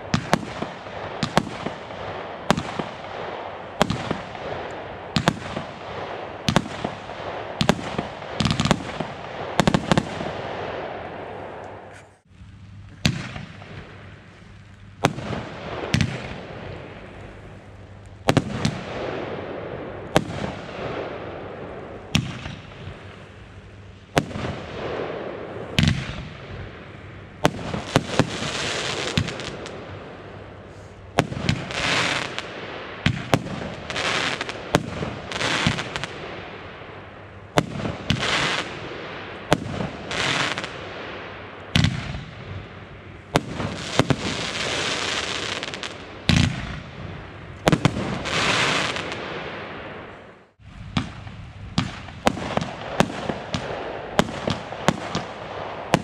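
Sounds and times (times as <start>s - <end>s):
fireworks bangs: 0.0s - 12.2s, 15.0s - 17.0s, 18.2s - 23.2s, 24.1s - 36.8s, 37.5s - 50.2s, 50.8s - 56.0s
fireworks crackling bursts: 0.0s - 56.0s.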